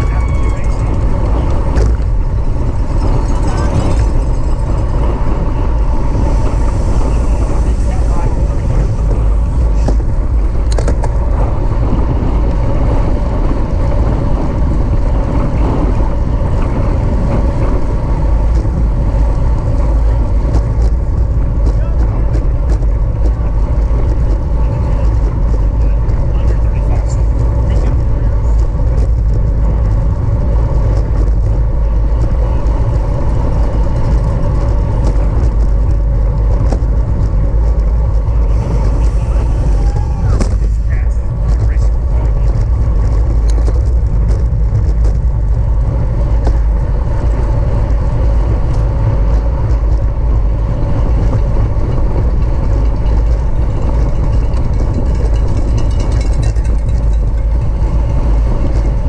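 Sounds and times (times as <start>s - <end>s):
road and tyre noise: 0.0s - 59.0s
wind buffeting microphone: 0.0s - 59.0s.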